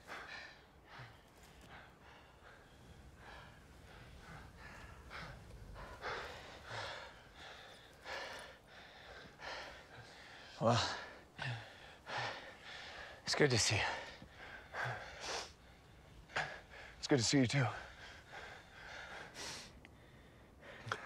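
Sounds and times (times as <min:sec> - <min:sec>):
men breathing heavily: 0:00.0 - 0:21.0.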